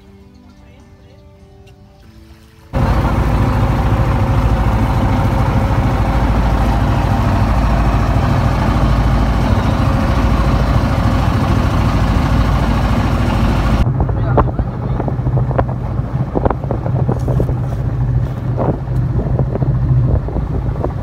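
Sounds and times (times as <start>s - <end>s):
motorboat engine running: 2.7s - 21.0s.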